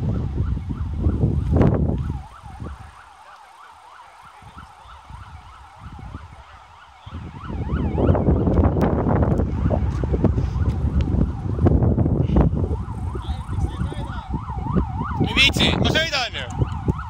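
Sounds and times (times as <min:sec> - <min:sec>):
vehicle siren wailing: 0:00.0 - 0:17.0
wind buffeting microphone: 0:00.0 - 0:17.0.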